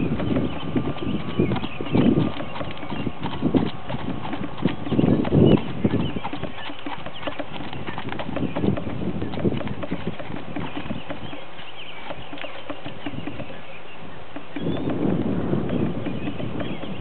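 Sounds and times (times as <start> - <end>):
horse hoofbeats on gravel: 0.0 - 17.0.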